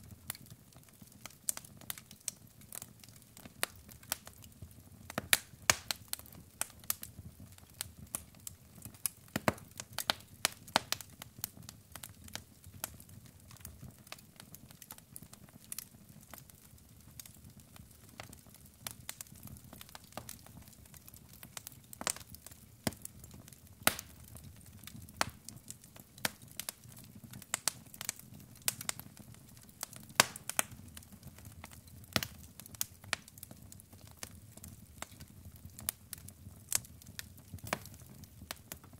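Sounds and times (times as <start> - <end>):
burning wood popping and snapping: 0.2 - 38.9.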